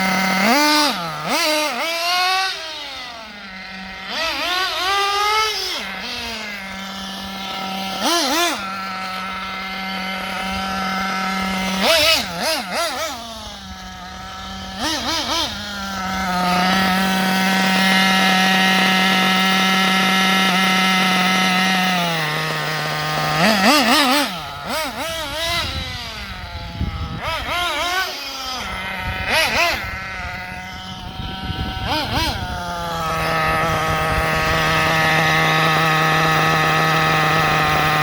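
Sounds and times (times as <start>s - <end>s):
small nitro engine revving: 0.0s - 38.0s.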